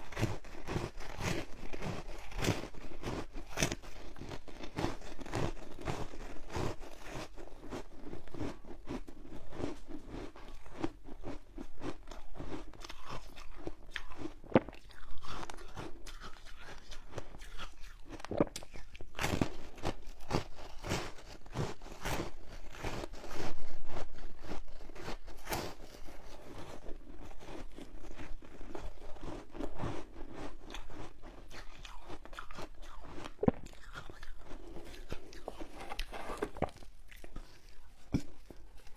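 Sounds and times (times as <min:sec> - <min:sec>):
crunchy chewing of frozen ice: 0:00.0 - 0:38.9.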